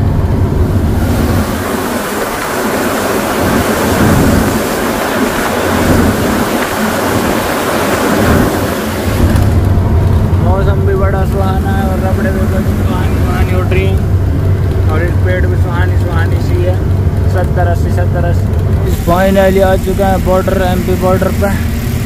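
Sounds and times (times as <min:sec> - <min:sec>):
heavy rain pouring: 0:00.0 - 0:22.0
truck diesel engine running: 0:00.0 - 0:22.0.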